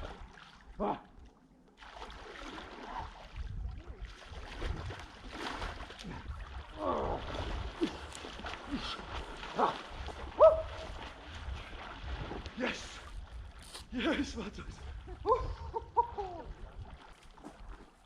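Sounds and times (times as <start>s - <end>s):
water splashing as person wades: 0.0s - 18.0s
wind rumbling on microphone: 2.9s - 18.0s.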